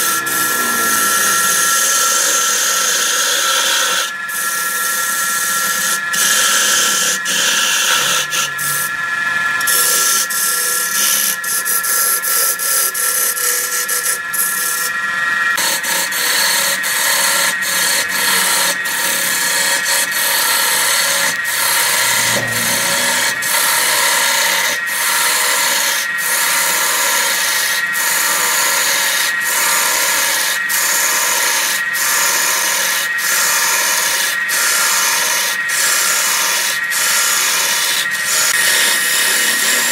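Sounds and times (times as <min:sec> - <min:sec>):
wood lathe humming: 0:00.0 - 0:39.9.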